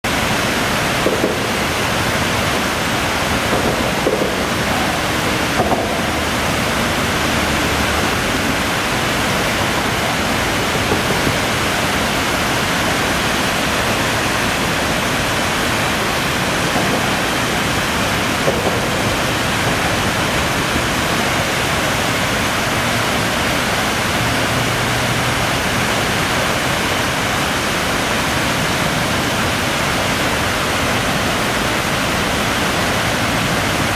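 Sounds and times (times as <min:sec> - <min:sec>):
whitewater river rushing: 0:00.0 - 0:33.9.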